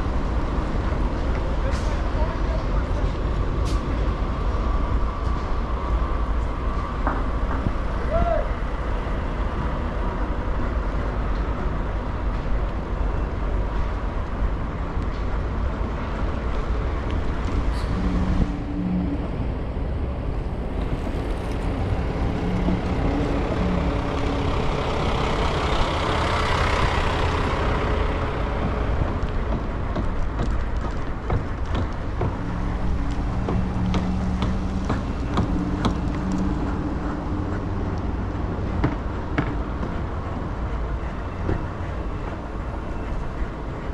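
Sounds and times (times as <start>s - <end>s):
road traffic: 0.0s - 43.9s
wind rumble: 0.0s - 43.9s.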